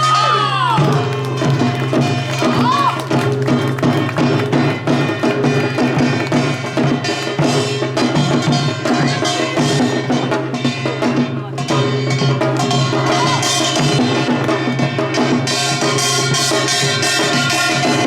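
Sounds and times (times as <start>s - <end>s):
barrel drum beating: 0.7s - 18.0s.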